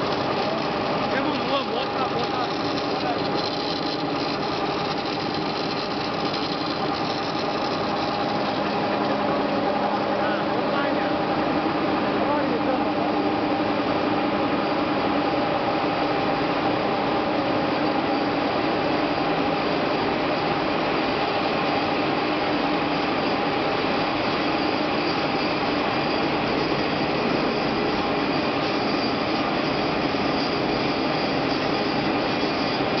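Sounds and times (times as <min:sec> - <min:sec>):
steady machine tones: 0:00.0 - 0:16.7, 0:22.6 - 0:33.0
industrial rolling line drone: 0:00.0 - 0:33.0.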